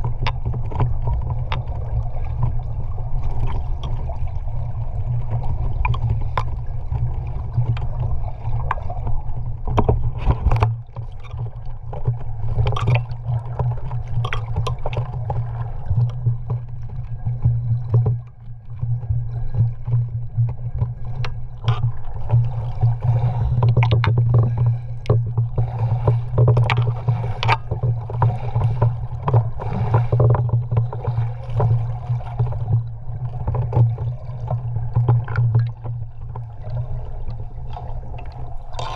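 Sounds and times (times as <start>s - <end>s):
sharp underwater clicks and pops: 0.0s - 4.1s, 5.7s - 8.0s, 9.6s - 18.8s, 19.4s - 37.0s
water sloshing and bubbling: 0.0s - 38.9s.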